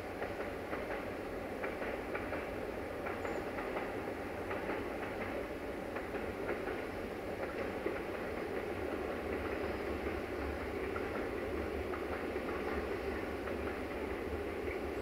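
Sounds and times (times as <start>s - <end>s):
freight train rumbling: 0.0s - 15.0s
train wheels clicking: 0.0s - 15.0s.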